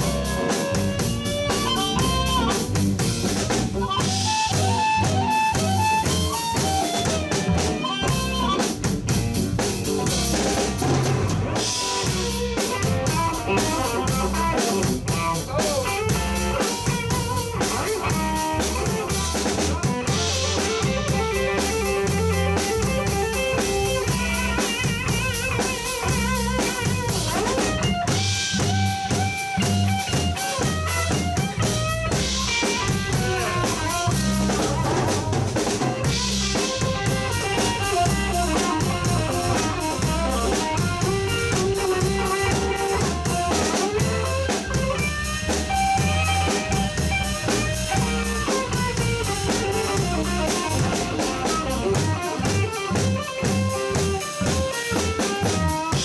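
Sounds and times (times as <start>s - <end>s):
blues band playing: 0.0s - 56.0s
drum rimshots: 0.0s - 56.0s.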